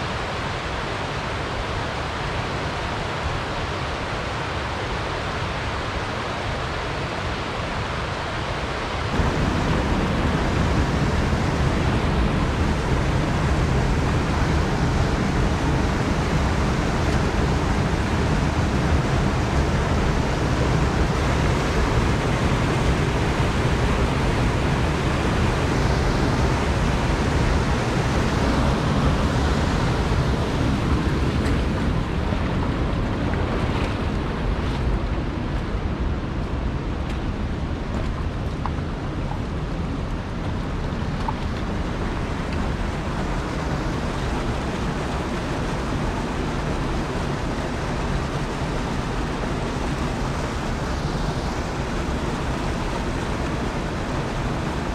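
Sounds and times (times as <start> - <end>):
stream water rushing over boulders: 0.0 - 54.9.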